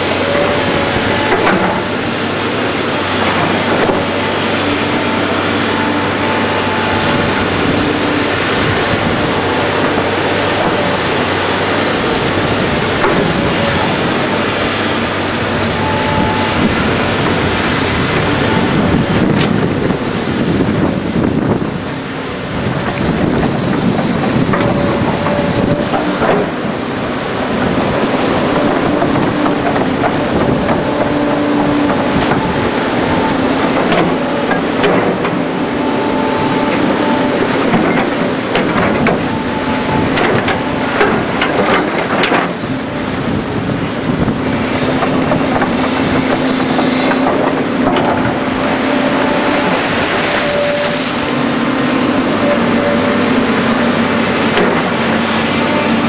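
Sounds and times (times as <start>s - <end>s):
excavator diesel engine running: 0.0s - 56.0s
hydraulics working: 0.0s - 56.0s
water rushing through dam: 0.0s - 56.0s.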